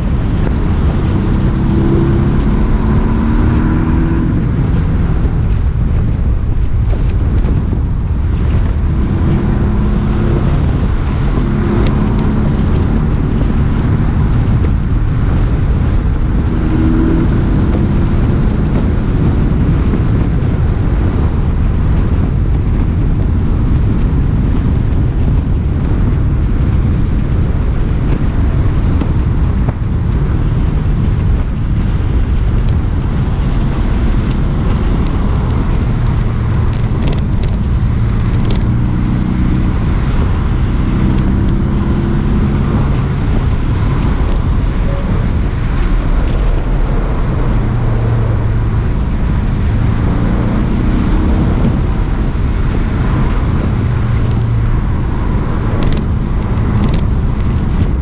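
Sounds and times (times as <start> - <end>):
car engine running: 0.0 - 58.0
wind and road noise: 0.0 - 58.0.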